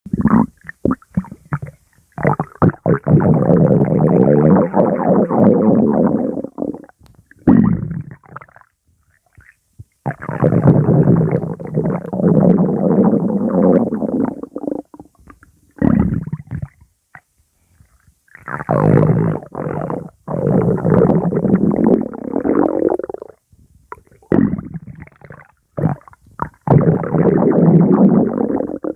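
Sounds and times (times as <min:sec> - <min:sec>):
stomach growling: 0:00.1 - 0:17.3, 0:17.9 - 0:28.9.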